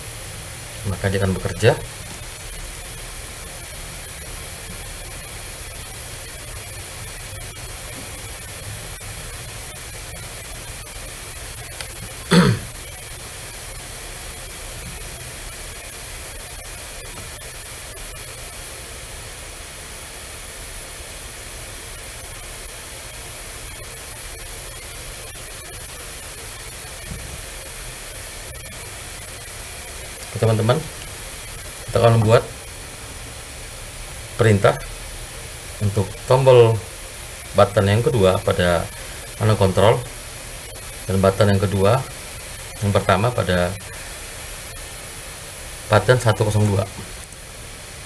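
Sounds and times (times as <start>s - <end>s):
background hiss: 0.0s - 48.0s.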